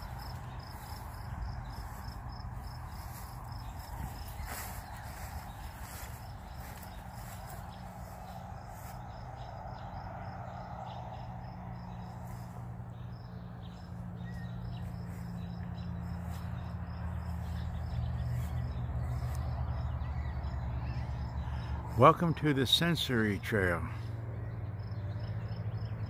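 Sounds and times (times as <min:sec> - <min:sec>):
cricket chirping: 0:00.0 - 0:21.8
low outdoor rumble: 0:00.0 - 0:26.0.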